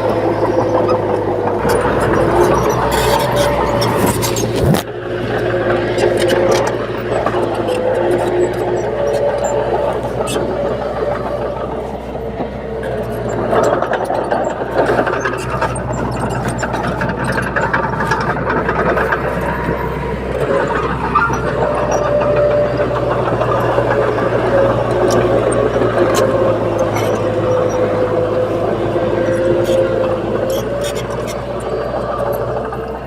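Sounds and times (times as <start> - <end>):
bulldozer diesel engine running: 0.0 - 33.0
steel tracks clanking: 0.0 - 33.0.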